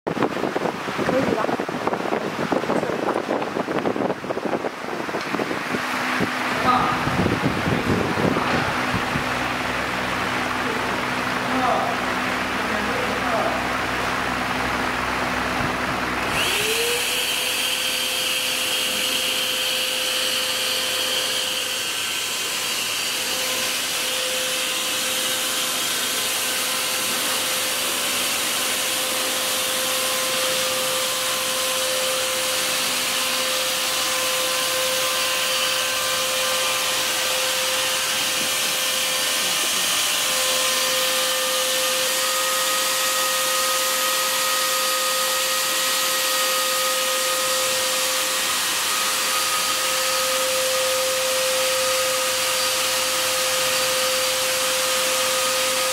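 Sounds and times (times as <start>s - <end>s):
electric air blower whine: 0.1s - 55.9s.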